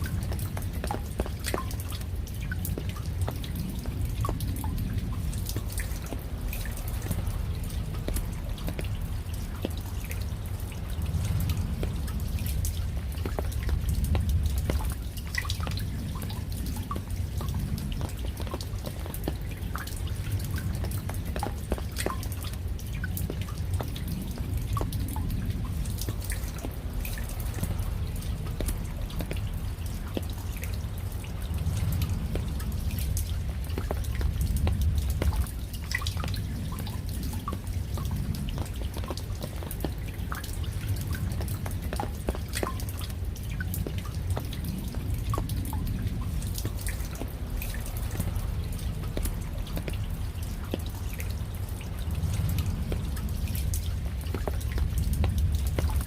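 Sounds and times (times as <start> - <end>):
raindrops dripping and tapping: 0.0 - 56.0
steady low rumble: 0.0 - 56.0.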